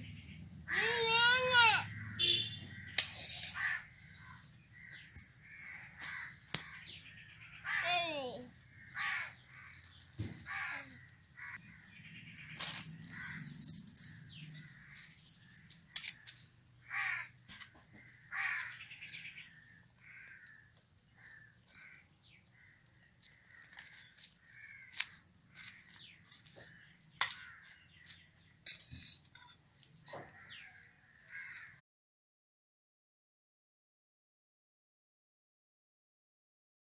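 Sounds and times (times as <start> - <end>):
crows cawing: 0.3 - 28.2, 30.1 - 31.8.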